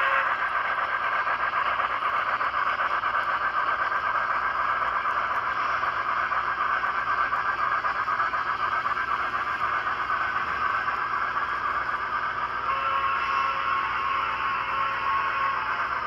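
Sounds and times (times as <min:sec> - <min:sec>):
model train running on track: 0:00.0 - 0:16.0.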